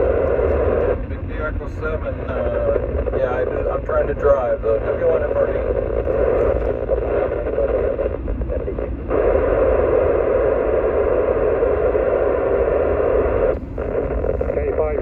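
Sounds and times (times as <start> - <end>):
low rumble of moving car: 0.0 - 15.0
radio static hiss: 0.0 - 15.0.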